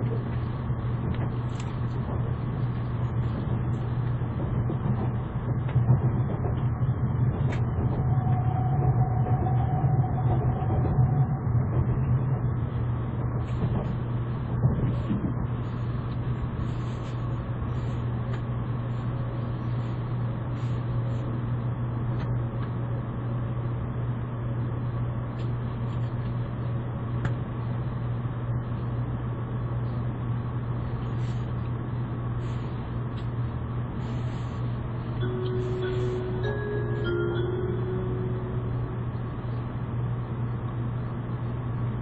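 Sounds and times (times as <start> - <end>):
train cabin low hum: 0.0 - 42.0
train rolling noise: 0.0 - 42.0.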